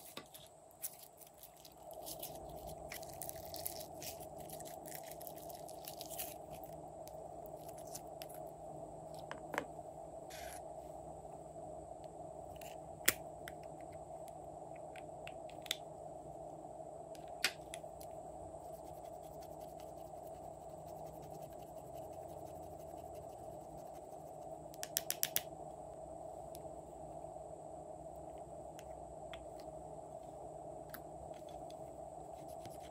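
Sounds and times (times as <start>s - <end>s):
faint hum: 0.0s - 32.9s.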